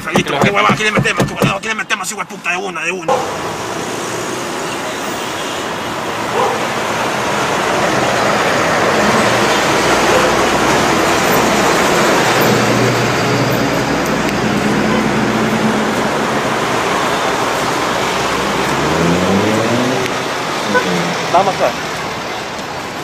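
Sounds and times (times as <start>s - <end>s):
passing vehicles rushing: 3.1s - 23.0s.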